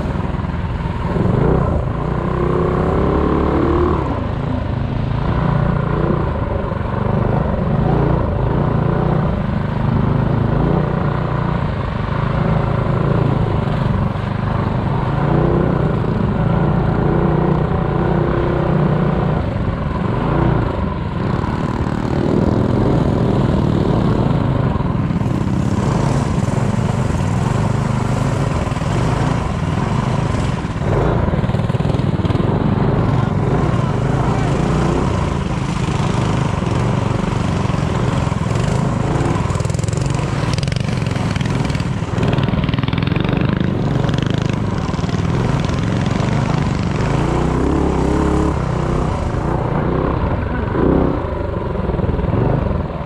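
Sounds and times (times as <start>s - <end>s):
minibike engine revving: 0.0s - 53.0s.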